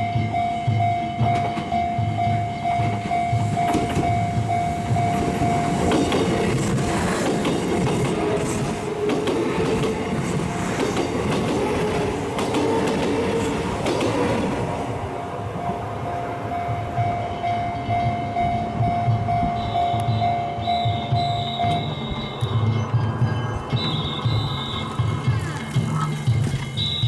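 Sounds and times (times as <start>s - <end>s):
train wheels clattering on rails: 0.0s - 27.0s.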